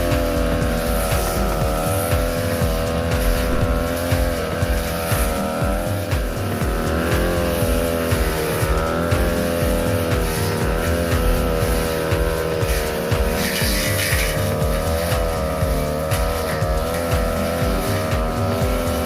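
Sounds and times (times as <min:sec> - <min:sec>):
brush cutter cutting grass: 0:00.0 - 0:19.0.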